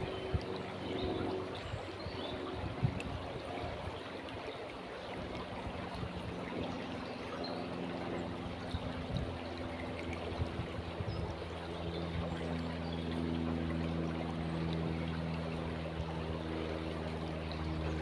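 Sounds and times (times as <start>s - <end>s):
low steady hum: 0.0s - 18.0s
river water flowing: 0.0s - 18.0s.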